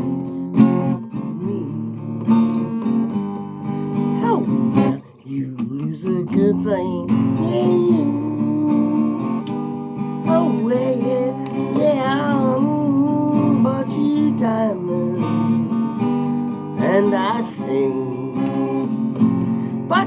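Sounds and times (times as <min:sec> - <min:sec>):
person singing: 0:00.0 - 0:03.1, 0:03.9 - 0:15.8, 0:16.6 - 0:20.0
acoustic guitar strumming: 0:00.0 - 0:20.0.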